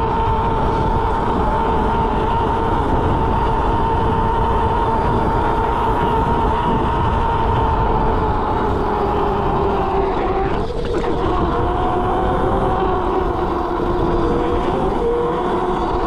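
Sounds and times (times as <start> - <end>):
electric motor whining: 0.0 - 16.0
wind rumble on microphone: 0.0 - 16.0.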